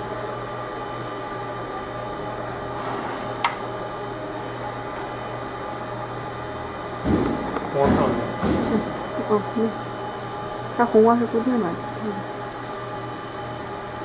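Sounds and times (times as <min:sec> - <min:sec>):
laser machine humming: 0:00.0 - 0:14.0.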